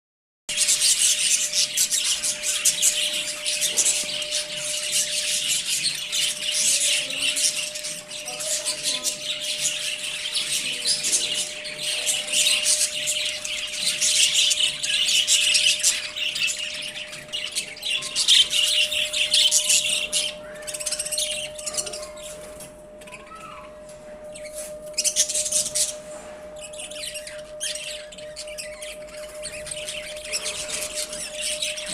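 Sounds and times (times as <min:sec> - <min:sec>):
budgerigars chattering and chirping: 0:00.5 - 0:23.7, 0:24.3 - 0:31.9.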